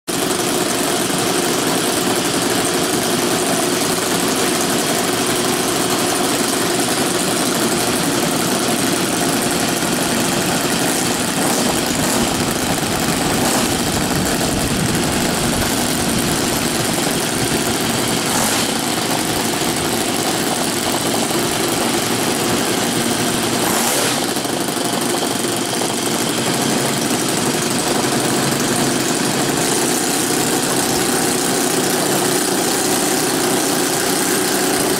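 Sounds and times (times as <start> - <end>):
model airplane engines running: 0.1 - 34.9.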